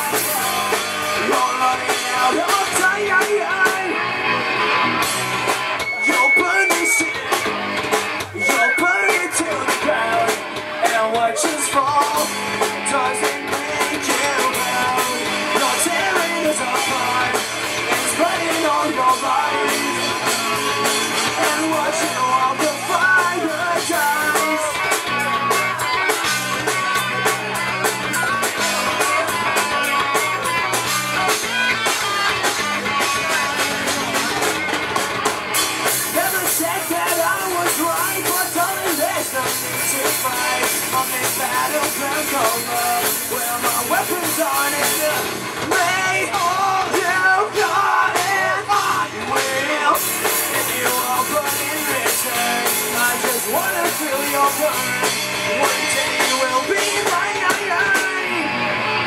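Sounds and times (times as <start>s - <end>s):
sung vocals: 0.0s - 4.4s, 5.8s - 34.5s, 35.7s - 59.0s
bass guitar: 0.0s - 59.0s
drum kit: 0.0s - 59.0s
electric guitars: 0.0s - 59.0s.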